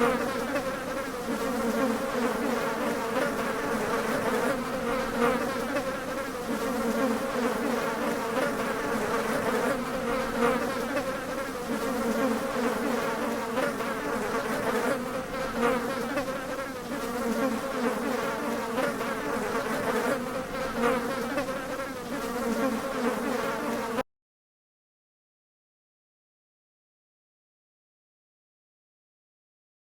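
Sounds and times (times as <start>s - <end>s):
flies buzzing: 0.0s - 24.0s.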